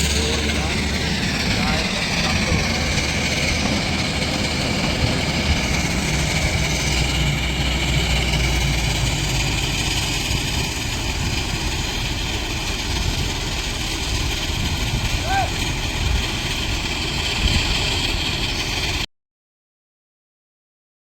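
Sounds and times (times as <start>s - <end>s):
diesel engine running: 0.0s - 19.1s.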